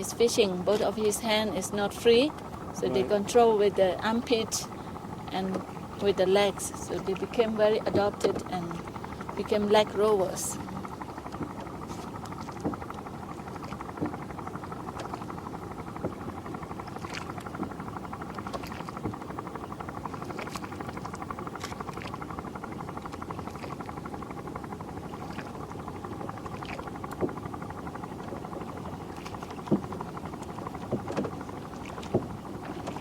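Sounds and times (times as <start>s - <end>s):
boat engine idling: 0.0s - 33.0s.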